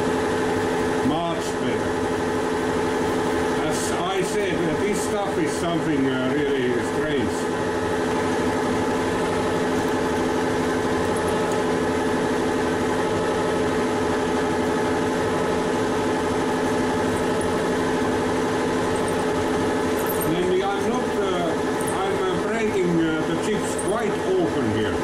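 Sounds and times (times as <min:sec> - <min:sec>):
metal lathe humming: 0:00.0 - 0:25.0.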